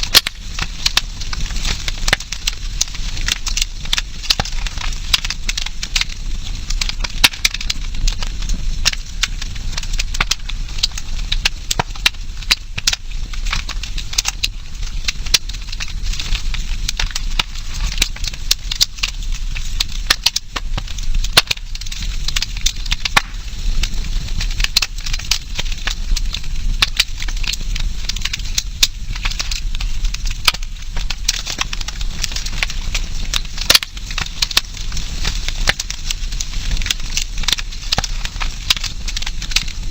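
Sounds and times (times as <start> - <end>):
campfire crackling and popping: 0.0 - 39.9
hiss of burning: 0.0 - 39.9.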